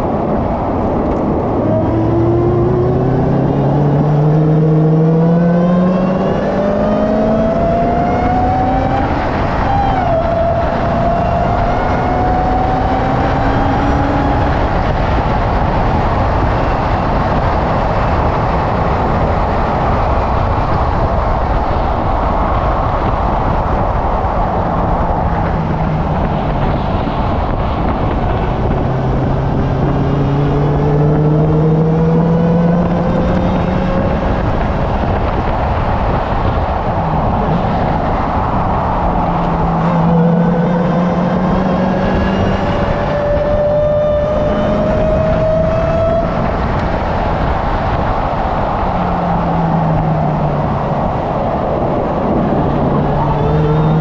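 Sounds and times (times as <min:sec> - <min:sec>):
car engine revving: 0:00.0 - 0:54.0
wind and road noise: 0:00.0 - 0:54.0.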